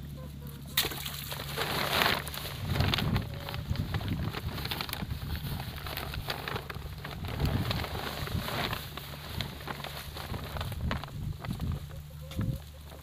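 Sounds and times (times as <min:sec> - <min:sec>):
plastic sack and net rustling: 0:00.4 - 0:13.0
wind rumble on microphone: 0:02.0 - 0:13.0.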